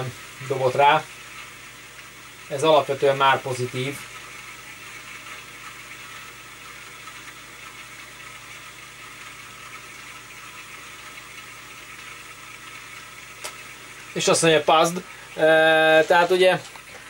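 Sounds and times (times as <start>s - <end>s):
floppy disk drive whirring: 0.0s - 17.0s.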